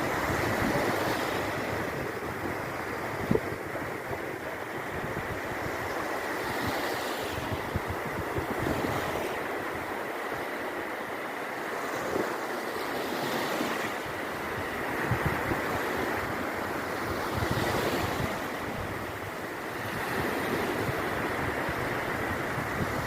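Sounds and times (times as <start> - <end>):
wind buffeting microphone: 0.0 - 9.9, 14.0 - 23.0
surf waves breaking on beach: 0.0 - 23.0.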